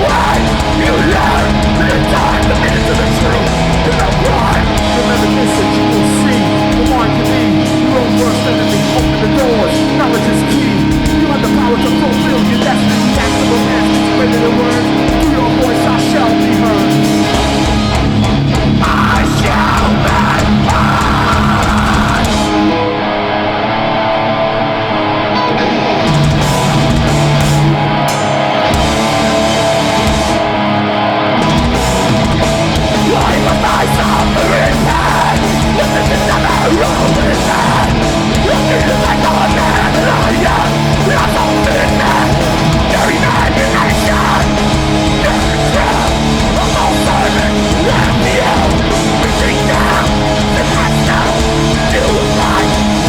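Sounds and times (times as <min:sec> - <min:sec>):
heavy distorted guitars: 0:00.0 - 0:53.0
live metal band playing: 0:00.0 - 0:53.0.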